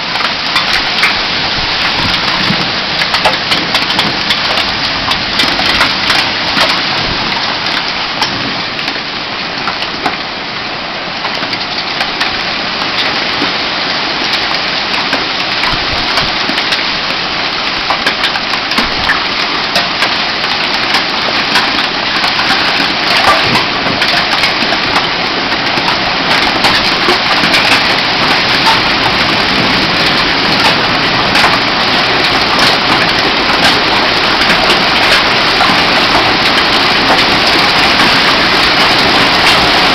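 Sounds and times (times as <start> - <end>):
hailstones clicking: 0.0 - 10.2, 11.2 - 39.9
hail and heavy rain hiss: 0.0 - 39.9.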